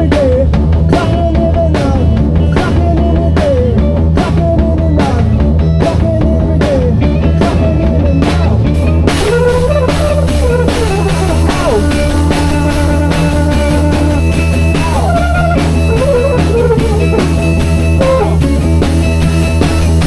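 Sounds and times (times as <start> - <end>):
drum kit steady beat: 0.0 - 20.0
low bass line: 0.0 - 20.0
sliding lead guitar line: 0.0 - 20.0.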